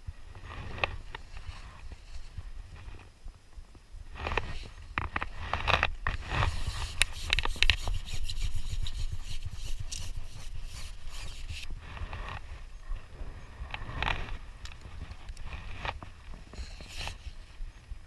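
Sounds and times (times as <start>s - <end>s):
rubbing and scraping handling noise: 0.4s - 3.0s, 4.2s - 12.7s, 13.7s - 17.6s.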